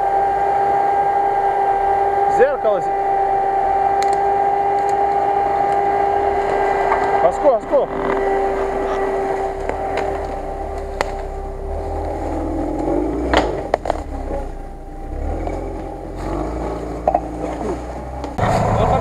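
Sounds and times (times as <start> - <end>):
car engine running at low revs: 0.0 - 19.0
steady whine: 0.0 - 19.0.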